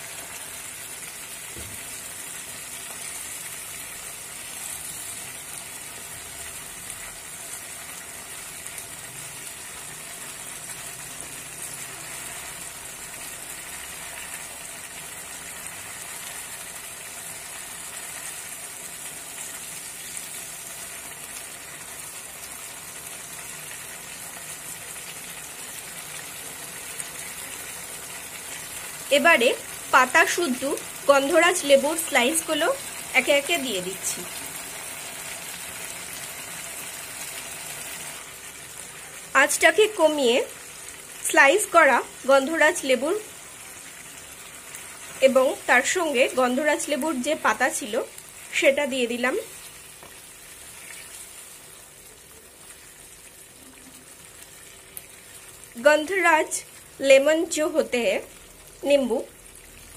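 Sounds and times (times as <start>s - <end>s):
chicken sizzling in a frying pan: 0.0s - 59.9s.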